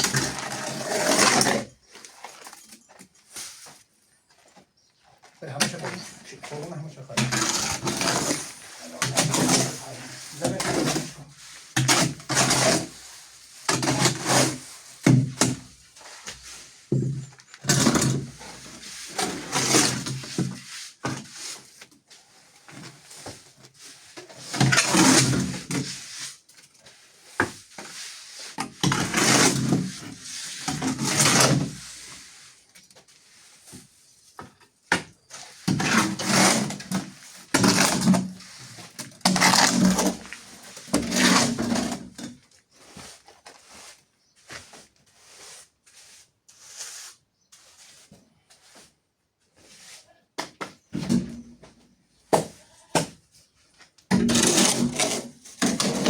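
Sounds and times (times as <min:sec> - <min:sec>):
hand tool scraping wet mortar: 0:00.0 - 0:03.8, 0:05.2 - 0:48.9, 0:54.1 - 0:56.0.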